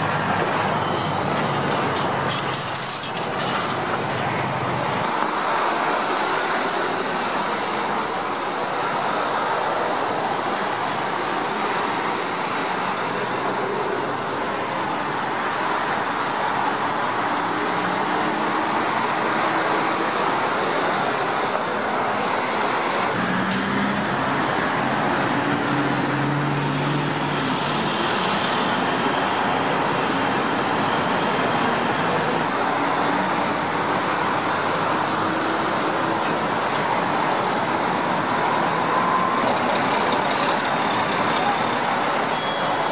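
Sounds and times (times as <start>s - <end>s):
highway traffic with heavy engines: 0.0s - 42.9s.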